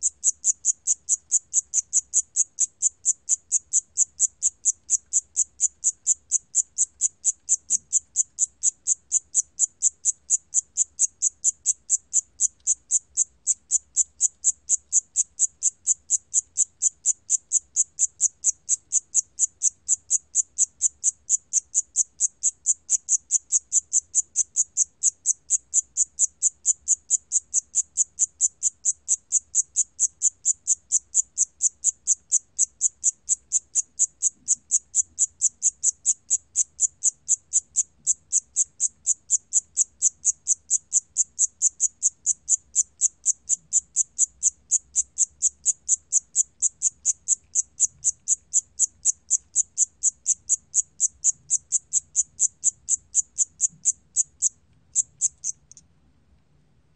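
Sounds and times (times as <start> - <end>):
cricket chirping: 0.0 - 55.8.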